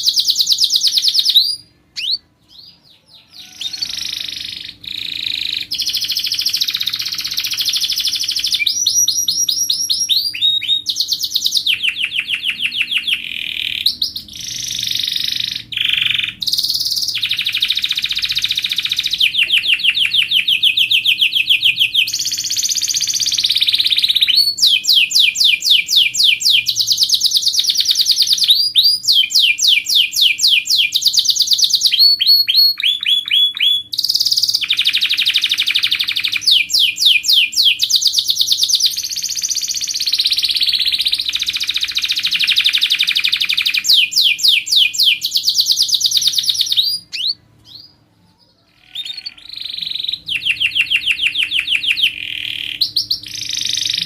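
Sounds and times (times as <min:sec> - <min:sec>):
canary singing rapid trills: 0:00.0 - 0:54.0.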